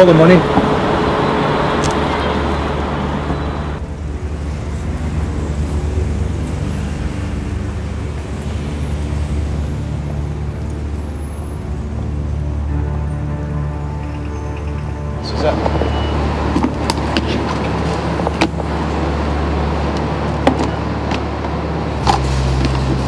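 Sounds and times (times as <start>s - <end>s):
city street traffic rumble: 0.0s - 23.0s.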